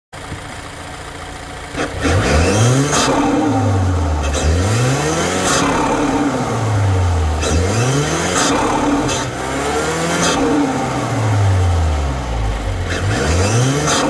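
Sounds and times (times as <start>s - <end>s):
car engine idling and revving: 0.2s - 14.0s.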